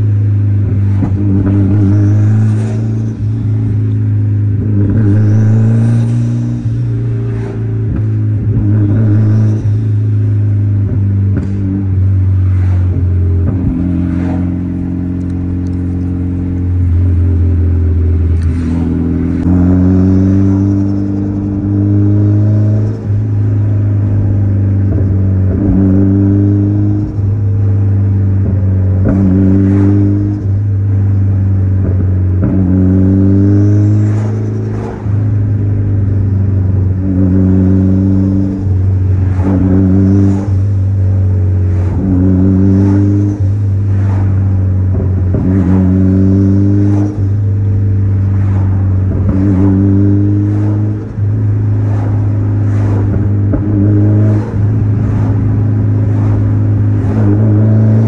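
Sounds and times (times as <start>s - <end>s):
car engine droning with revs: 0.0s - 58.0s.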